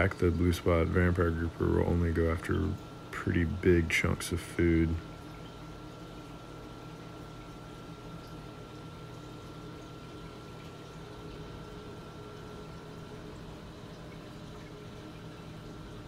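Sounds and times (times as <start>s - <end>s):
low pump hum: 0.0s - 16.0s
water moving through aquarium: 0.0s - 16.0s.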